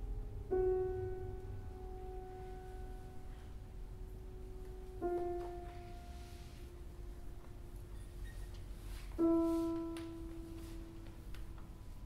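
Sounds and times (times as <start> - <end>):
piano notes ringing: 0.0 - 12.0.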